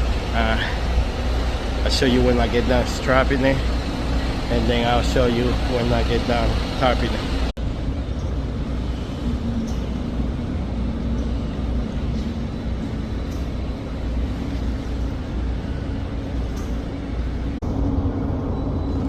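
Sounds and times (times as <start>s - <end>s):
heavy engine rumbling: 0.0s - 19.0s.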